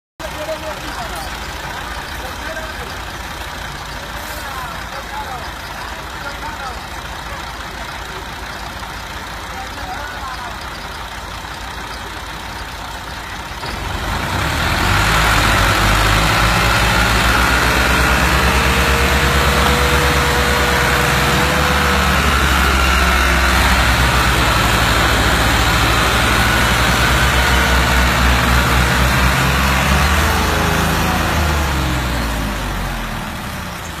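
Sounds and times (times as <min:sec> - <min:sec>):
diesel tractor engines labouring: 0:00.2 - 0:34.0.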